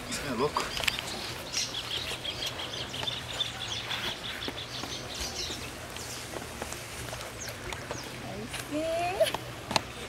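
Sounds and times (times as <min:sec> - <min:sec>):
birds calling: 0:00.0 - 0:08.5.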